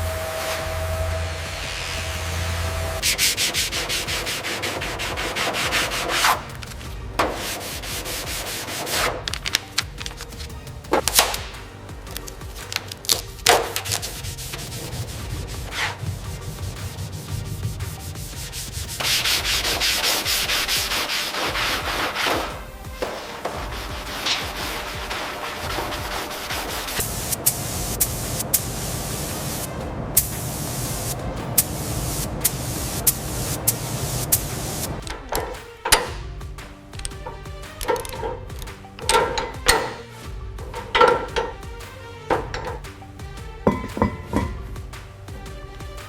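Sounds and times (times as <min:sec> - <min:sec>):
sanding scrape: 0:00.0 - 0:44.9.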